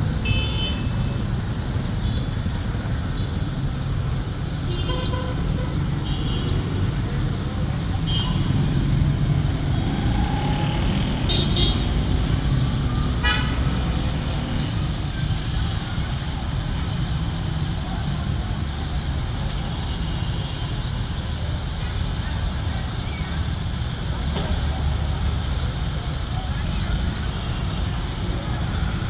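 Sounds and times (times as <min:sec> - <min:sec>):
street traffic noise: 0:00.0 - 0:29.0.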